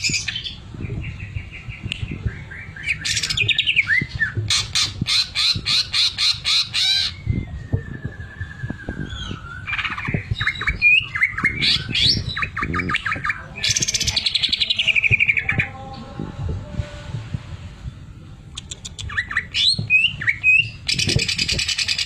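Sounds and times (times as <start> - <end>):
bird singing: 0.0 - 16.2, 18.6 - 22.0.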